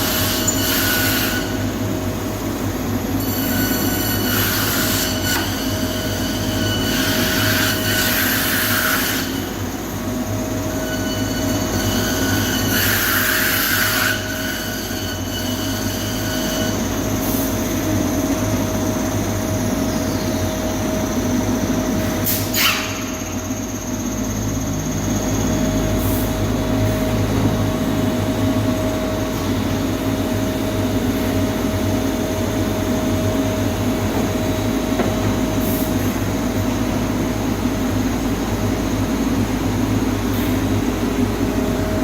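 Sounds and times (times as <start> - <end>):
machine whine: 0.0 - 42.0.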